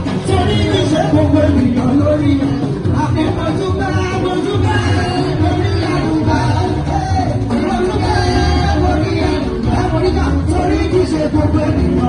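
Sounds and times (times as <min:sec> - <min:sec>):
loud music with singing: 0:00.0 - 0:12.0.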